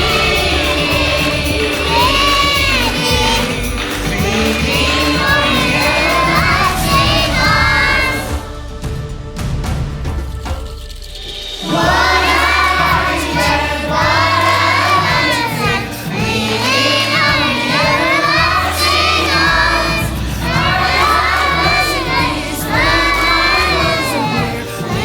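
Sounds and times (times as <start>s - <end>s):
children singing and shouting: 0.0s - 9.9s, 10.5s - 25.0s
music backing track with bass: 0.0s - 10.5s, 11.8s - 25.0s.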